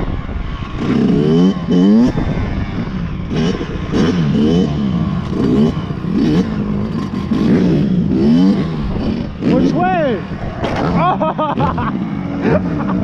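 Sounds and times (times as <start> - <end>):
motorcycle engines idling: 0.0 - 13.0
motorcycle engines revving: 0.0 - 13.0.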